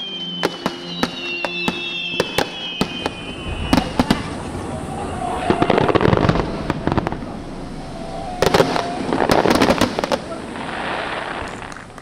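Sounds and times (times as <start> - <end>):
fireworks crackling: 0.0 - 12.0
hiss of fireworks: 0.0 - 12.0.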